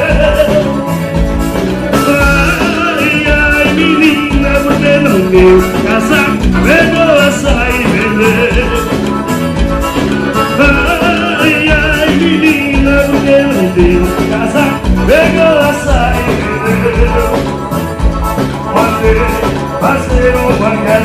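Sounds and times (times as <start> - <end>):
bass line: 0.0 - 21.0
drum beat: 0.0 - 21.0
wavering melodic lead: 0.0 - 21.0.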